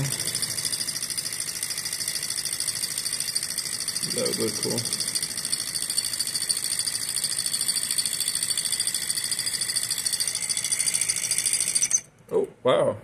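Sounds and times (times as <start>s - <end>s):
model engine mechanical rhythm: 0.0s - 12.0s.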